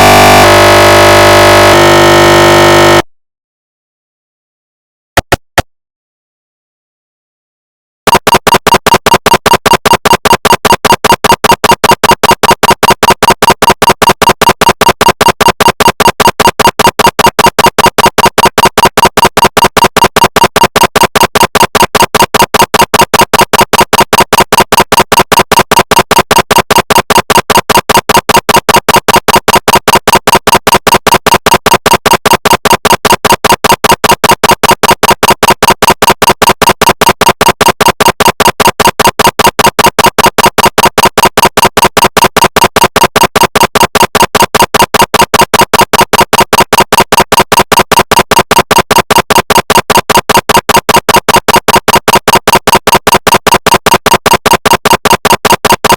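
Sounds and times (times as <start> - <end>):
mri scanner rapid pulses: 0.0 - 3.0, 8.1 - 55.9.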